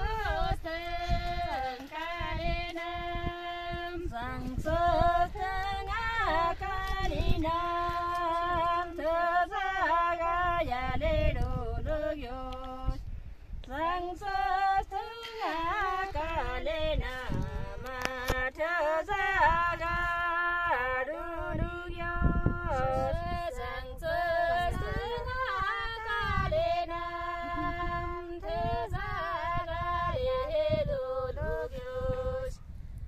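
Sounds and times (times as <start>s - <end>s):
women singing unaccompanied: 0.0s - 32.6s.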